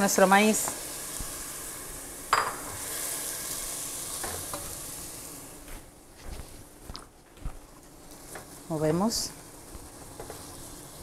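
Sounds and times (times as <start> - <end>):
corn sizzling in hot oil: 0.0 - 5.7, 7.6 - 11.0.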